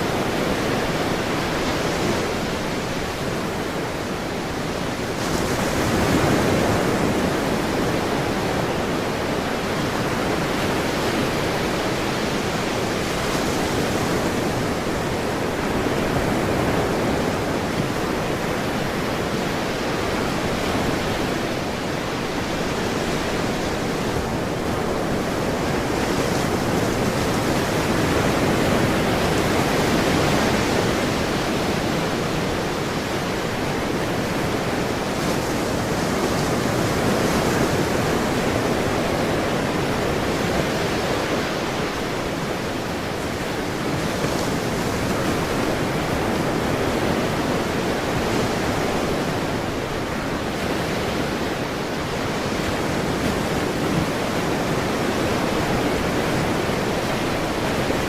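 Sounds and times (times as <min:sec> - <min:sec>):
ocean surf washing on shore: 0:00.0 - 0:58.0.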